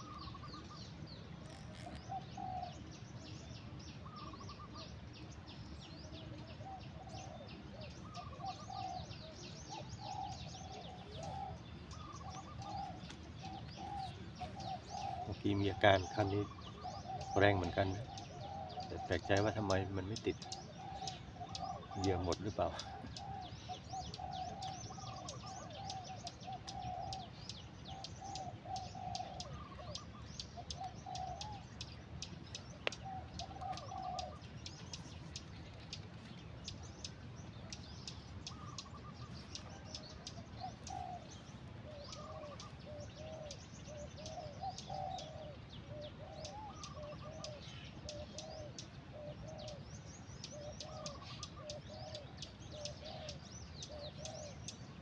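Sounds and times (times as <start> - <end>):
short lower arched bird calls: 0.0 - 5.0, 5.8 - 55.0.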